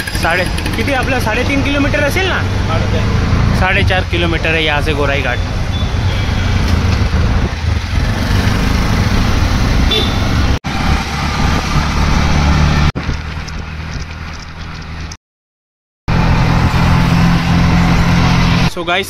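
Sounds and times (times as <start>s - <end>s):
auto-rickshaw engine running: 0.0s - 15.2s, 16.1s - 18.7s
street traffic: 0.0s - 15.2s, 16.1s - 19.0s.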